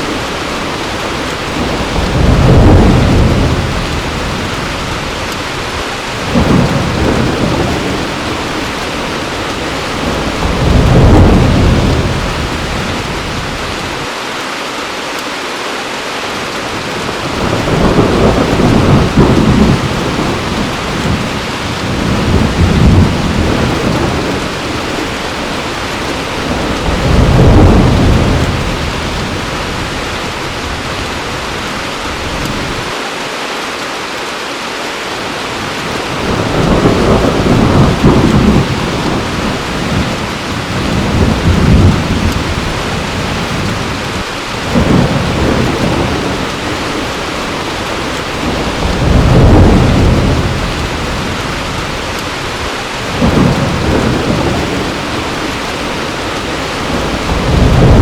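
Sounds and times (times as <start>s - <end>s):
thunder rumbling: 0.0s - 14.1s, 16.7s - 33.0s, 35.5s - 58.0s
heavy rain falling: 0.0s - 58.0s.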